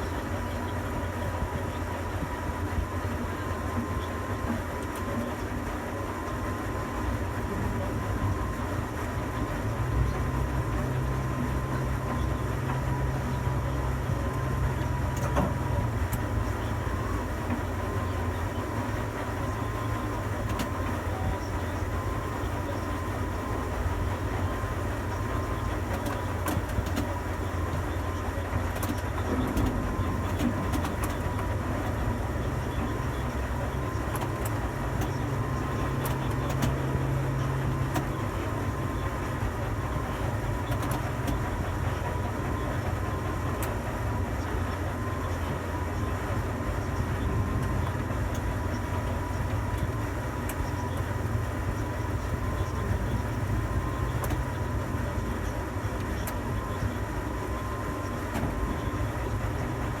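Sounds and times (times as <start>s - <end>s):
crane machinery low rumble: 0.0s - 60.0s
faint high whine: 0.0s - 60.0s.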